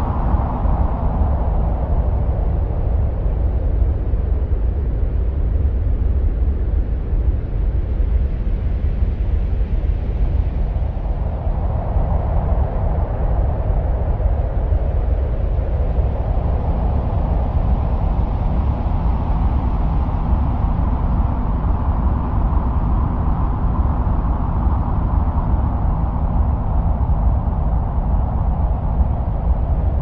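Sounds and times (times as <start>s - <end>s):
wind-like rumble and hiss: 0.0s - 30.0s.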